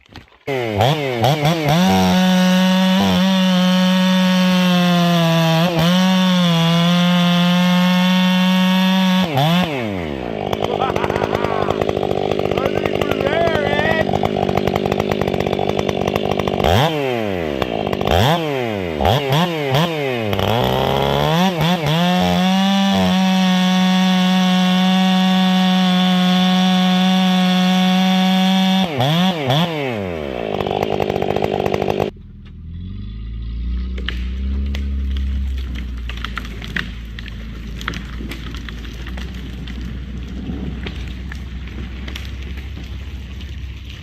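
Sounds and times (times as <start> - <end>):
chainsaw idling and revving: 0.4 - 44.0.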